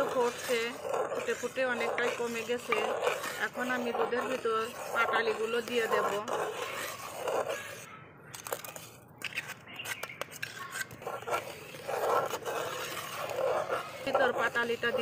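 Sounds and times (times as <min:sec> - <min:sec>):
metal spatula scraping in pan: 0:00.0 - 0:07.9, 0:10.4 - 0:15.0.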